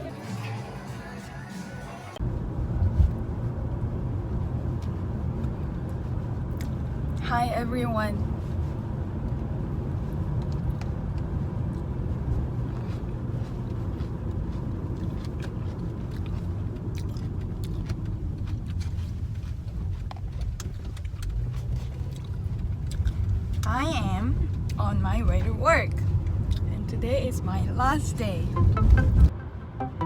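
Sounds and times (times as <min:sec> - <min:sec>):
vehicle interior rumble: 0:00.0 - 0:30.0.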